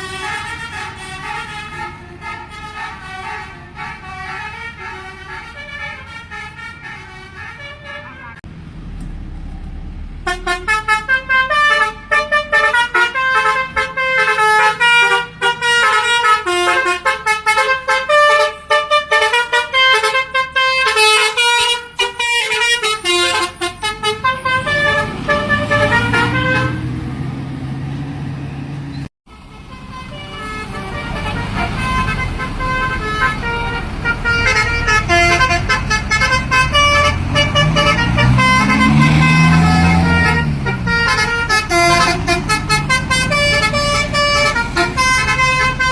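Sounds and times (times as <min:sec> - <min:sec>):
bus air horn melody: 0:00.0 - 0:08.4, 0:10.2 - 0:27.0, 0:29.3 - 0:45.9
bus engine revving: 0:00.0 - 0:45.9.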